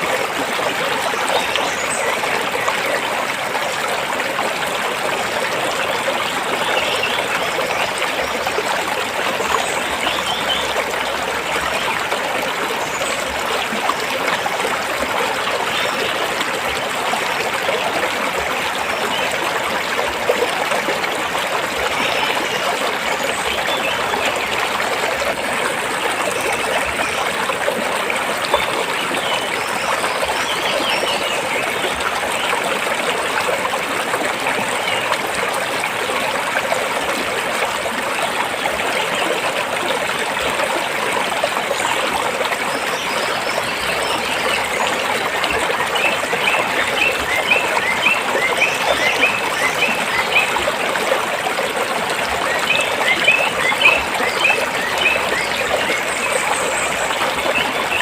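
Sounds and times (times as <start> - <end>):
stream water flowing over rocks: 0.0 - 58.0.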